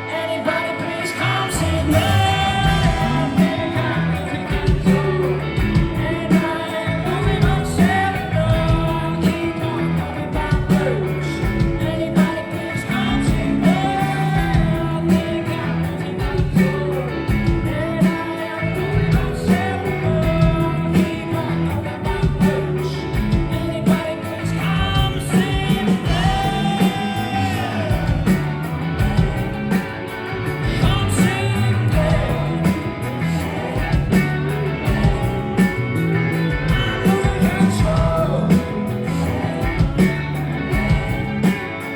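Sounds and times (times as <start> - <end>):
live rock band: 0.0 - 41.9
man singing: 0.0 - 41.9.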